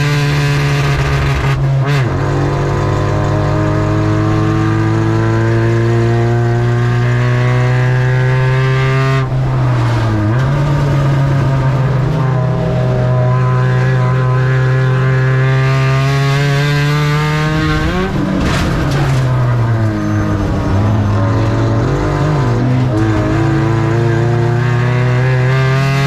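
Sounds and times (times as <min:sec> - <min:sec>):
race truck engine revving: 0:00.0 - 0:26.0.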